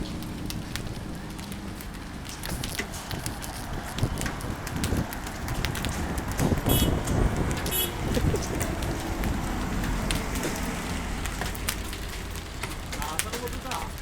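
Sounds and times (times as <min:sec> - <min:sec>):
hailstones clicking on hard surfaces: 0:00.0 - 0:14.0
wind and rain rushing: 0:00.0 - 0:14.0.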